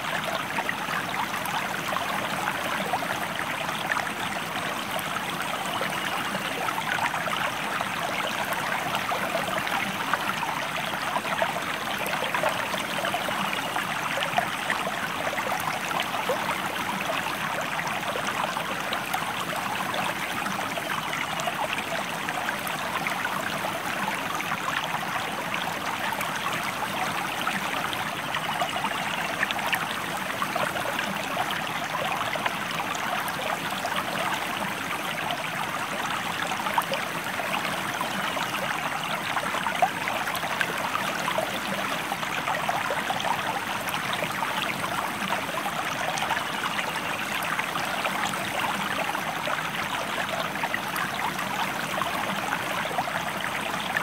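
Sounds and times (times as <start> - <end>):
river water running over rocks: 0.0 - 54.0.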